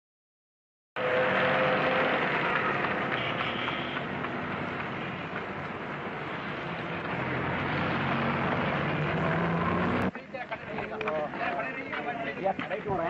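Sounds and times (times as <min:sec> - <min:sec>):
road noise hiss: 0:01.0 - 0:13.0
vehicle engines running: 0:01.0 - 0:13.0.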